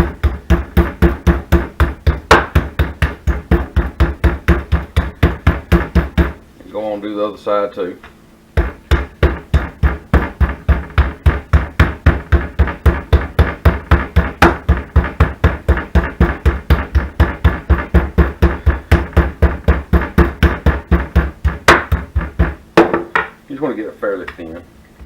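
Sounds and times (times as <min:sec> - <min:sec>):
meat being pounded with heavy thuds: 0:00.0 - 0:06.5, 0:08.6 - 0:23.3.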